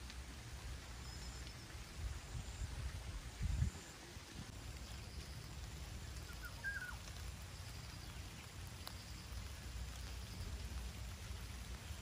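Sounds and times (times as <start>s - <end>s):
rain falling: 0.0s - 12.0s
wind rumbling on microphone: 0.0s - 12.0s.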